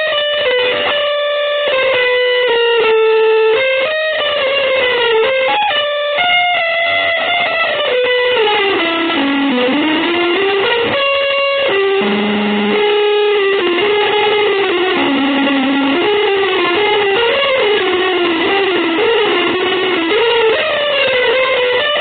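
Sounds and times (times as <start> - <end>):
electric guitar sliding melody: 0.0 - 22.0.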